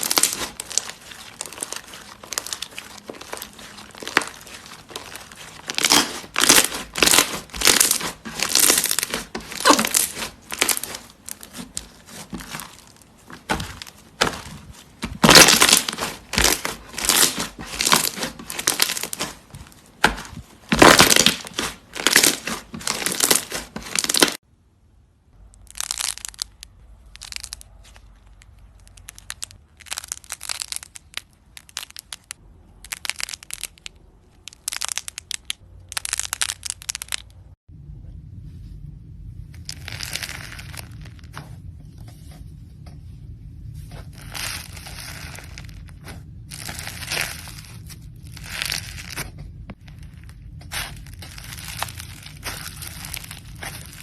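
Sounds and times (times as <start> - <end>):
crunchy slime crackling and popping: 0.0 - 24.4, 25.5 - 37.6, 39.5 - 41.8, 43.8 - 54.0.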